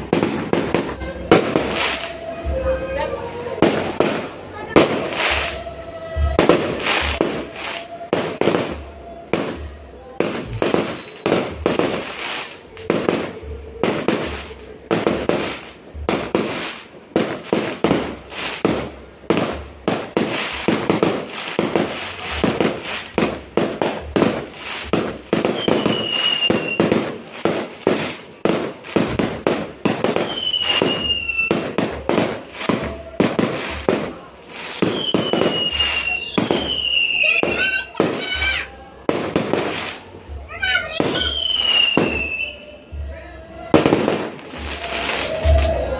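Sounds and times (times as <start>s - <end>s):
falling firework whistles: 0.0s - 2.7s, 3.7s - 18.9s, 19.5s - 38.7s, 40.9s - 42.8s, 43.8s - 45.9s
fireworks banging: 0.0s - 45.9s.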